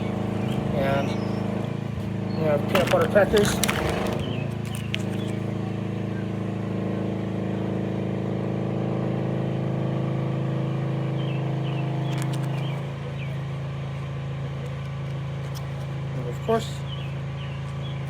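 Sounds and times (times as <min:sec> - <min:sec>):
motor engine droning: 0:00.0 - 0:18.0.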